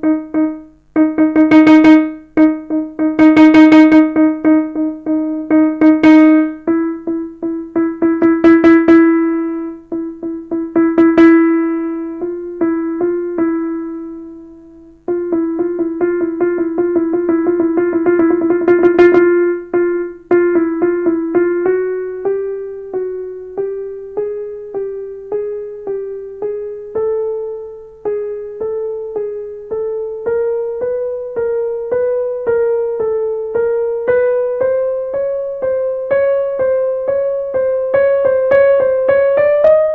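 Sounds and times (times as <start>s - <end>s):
digital piano single notes: 0.0s - 39.9s.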